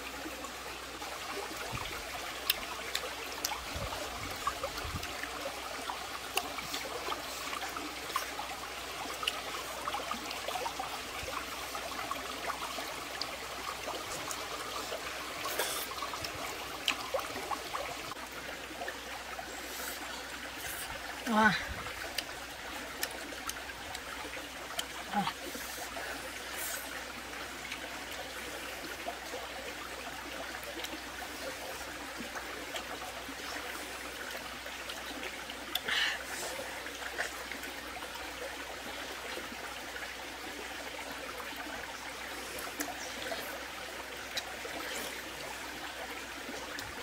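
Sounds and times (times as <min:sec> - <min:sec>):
stream running over rocks: 0:00.0 - 0:47.0.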